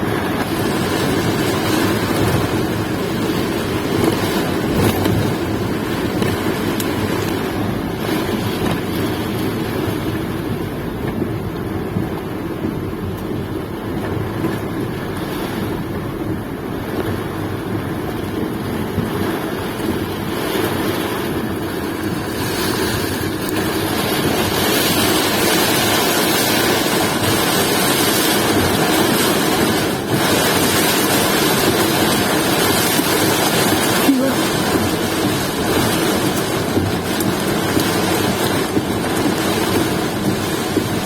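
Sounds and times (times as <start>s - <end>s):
rain rushing: 0.0s - 41.0s
wind rumbling on microphone: 0.0s - 41.0s.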